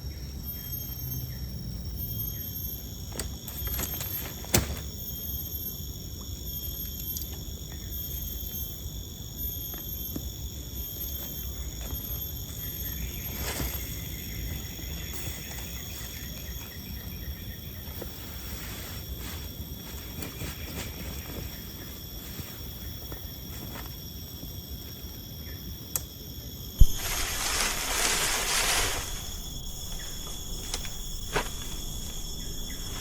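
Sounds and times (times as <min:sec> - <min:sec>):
insects calling: 0:00.0 - 0:33.0.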